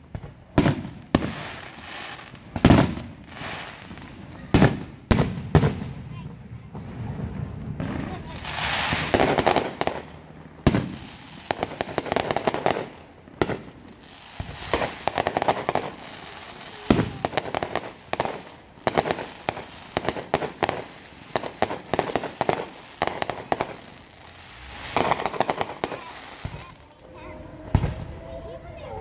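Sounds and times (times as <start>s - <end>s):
rapid firework crackling: 0.0s - 28.1s.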